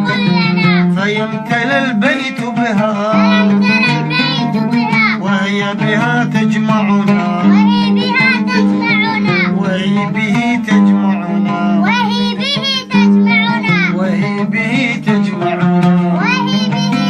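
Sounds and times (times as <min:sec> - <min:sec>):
children's song melody: 0:00.0 - 0:17.0.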